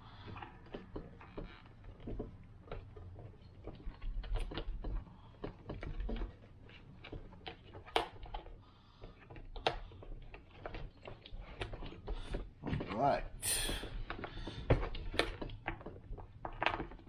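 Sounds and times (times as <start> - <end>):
small clicks and taps: 0.1 - 13.0, 14.0 - 17.0.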